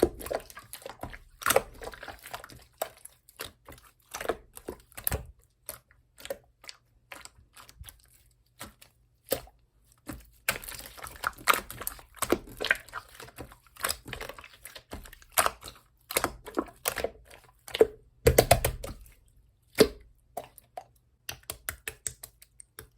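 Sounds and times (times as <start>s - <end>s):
slime squish: 0.0s - 22.9s.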